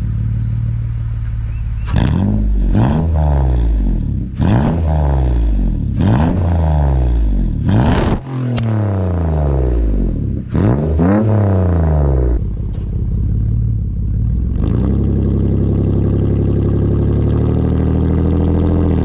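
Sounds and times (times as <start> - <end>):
car engine revving and idling: 0.0 - 19.0.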